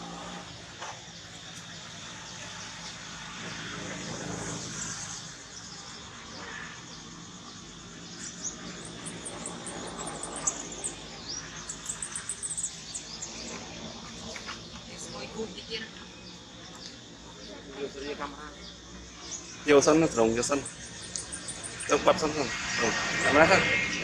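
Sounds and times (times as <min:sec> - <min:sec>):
outdoor background noise: 0:00.0 - 0:24.0
small birds chirping: 0:00.0 - 0:24.0.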